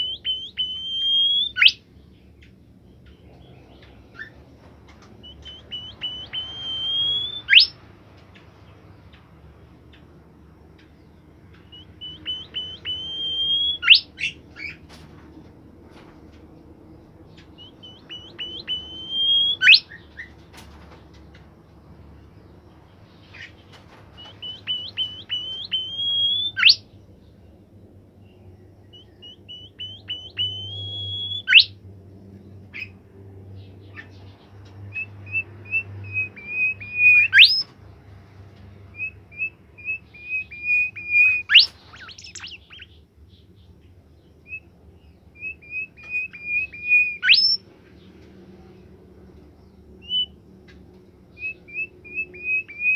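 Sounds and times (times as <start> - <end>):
bird singing chirps: 0.0 - 4.4, 5.0 - 7.8, 9.9 - 14.8, 16.8 - 20.4, 22.2 - 31.8, 32.5 - 37.8, 38.9 - 48.1, 49.3 - 52.9.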